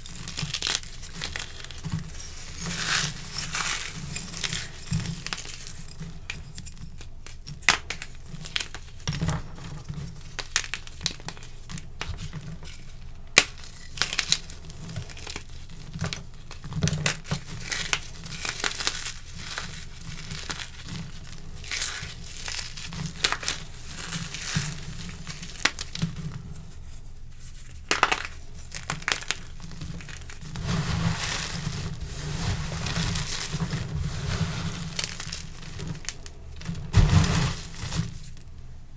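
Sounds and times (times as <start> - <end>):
hands crushing chalk: 0.0 - 38.5.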